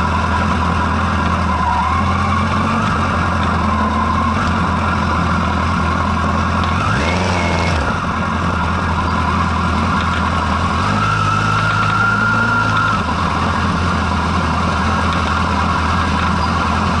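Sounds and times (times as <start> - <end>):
motorcycle engine revving: 0.0 - 17.0
motorcycle engine running: 0.0 - 17.0.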